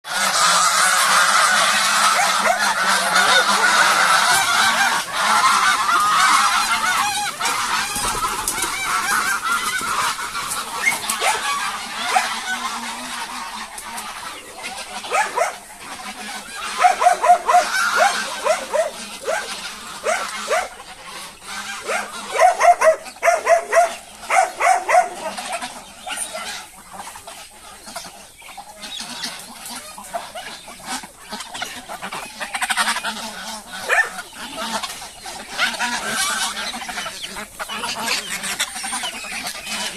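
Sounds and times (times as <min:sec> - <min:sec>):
farm fowl calling: 0:00.0 - 0:39.9.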